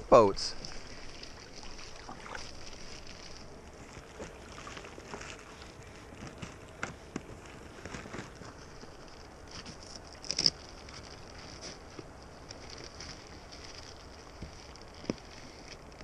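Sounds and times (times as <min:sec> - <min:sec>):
steady low hiss: 0:00.0 - 0:16.0
paddles splashing and dripping: 0:00.3 - 0:16.0.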